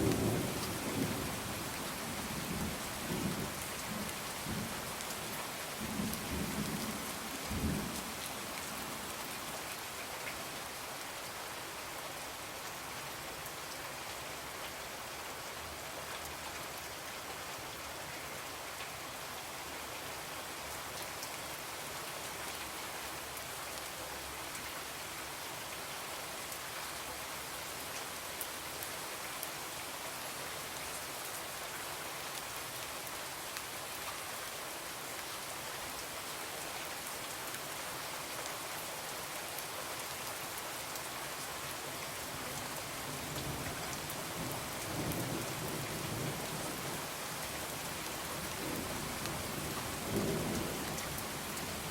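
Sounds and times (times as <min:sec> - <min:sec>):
rain on a window: 0:00.0 - 0:51.9.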